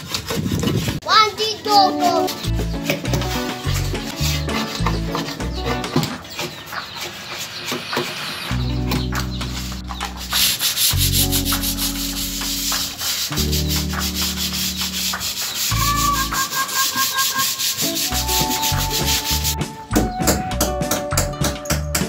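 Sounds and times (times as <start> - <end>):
sandpaper rasping on wood: 0.0 - 5.8, 6.4 - 8.5, 9.6 - 19.6
background music with low notes: 1.4 - 6.6, 8.5 - 22.0.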